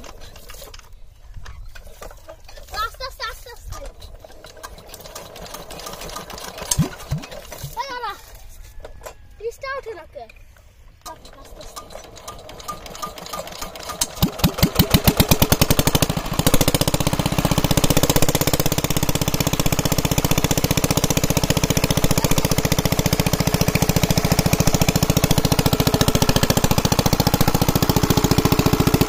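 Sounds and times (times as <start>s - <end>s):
diesel engine hand-cranked and chugging: 0.0s - 8.2s, 11.0s - 29.0s.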